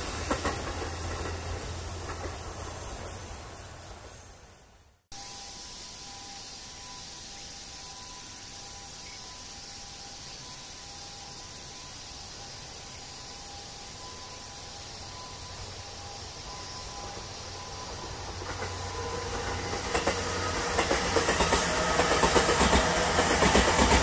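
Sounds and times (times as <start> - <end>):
faint steady tones: 0.0 - 23.9
electric train rumble: 0.0 - 24.0
steady outdoor hiss: 0.0 - 24.0.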